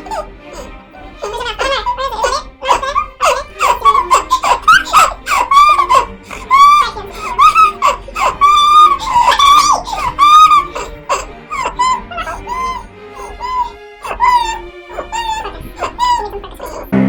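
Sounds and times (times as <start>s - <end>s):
person laughing hard: 0.0s - 17.0s.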